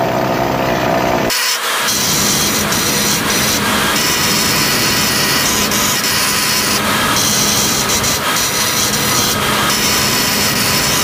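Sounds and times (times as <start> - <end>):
grinder grinding steel: 1.3 - 11.0.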